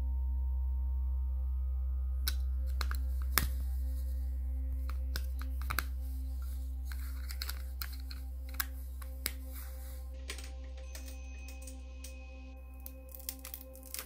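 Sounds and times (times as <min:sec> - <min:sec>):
steady low drone: 0:00.0 - 0:14.0.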